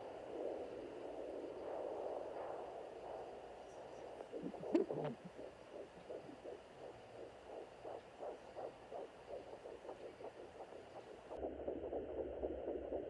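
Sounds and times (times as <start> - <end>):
fetal heartbeat whooshing pulse: 0.0 - 13.0.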